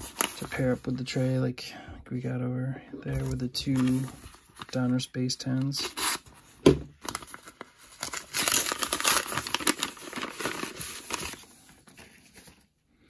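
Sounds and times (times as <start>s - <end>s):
paper envelope crinkling: 0.0s - 0.9s, 3.1s - 12.8s.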